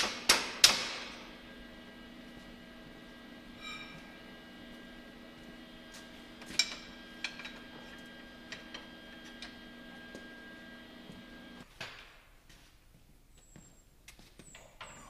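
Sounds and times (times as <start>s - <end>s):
steady electrical hum: 0.0s - 14.1s.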